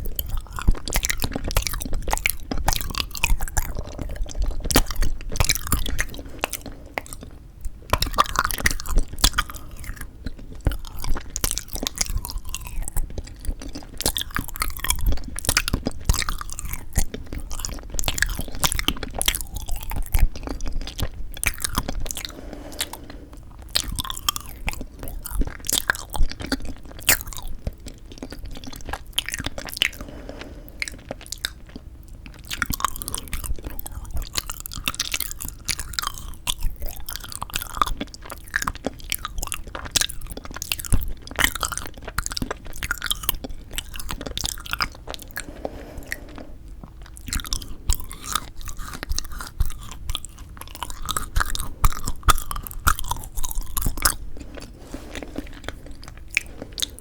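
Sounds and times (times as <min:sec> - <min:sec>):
crunchy chewing and biting: 0:00.0 - 0:57.0
wet mouth sounds: 0:00.0 - 0:57.0.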